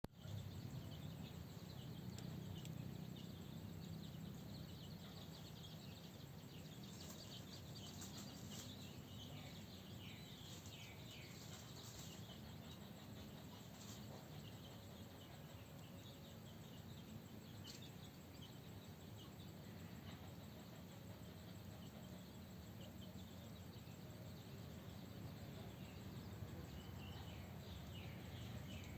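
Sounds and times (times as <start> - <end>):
chicks peeping: 0.1 - 28.9
low outdoor rumble: 0.1 - 28.9.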